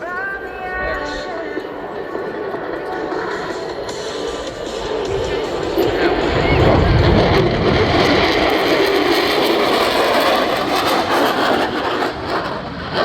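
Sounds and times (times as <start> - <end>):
plane flying past: 0.0 - 13.0.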